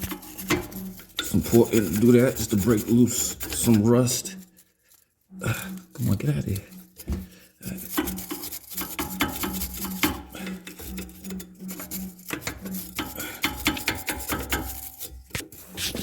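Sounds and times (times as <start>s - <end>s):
brush scrubbing rusty metal: 0.0s - 16.0s.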